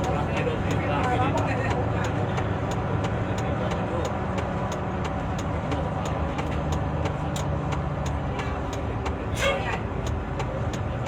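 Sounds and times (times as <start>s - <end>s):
bus engine and road rumble: 0.0s - 11.0s
light regular clicks: 0.0s - 11.0s.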